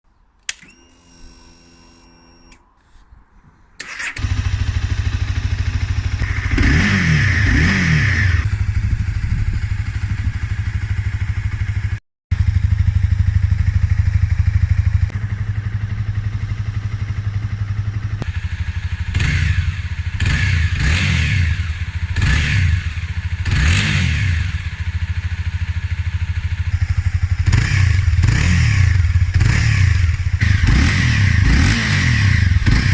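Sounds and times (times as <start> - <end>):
motorcycle engine idling and revving: 3.9 - 32.9.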